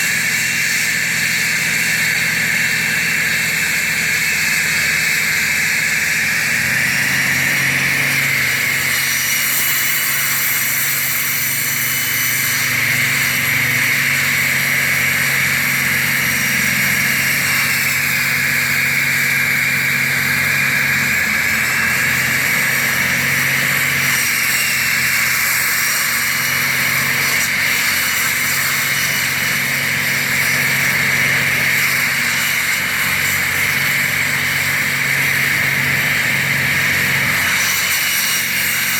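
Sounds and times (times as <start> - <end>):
floor saw cutting concrete: 0.0 - 38.9.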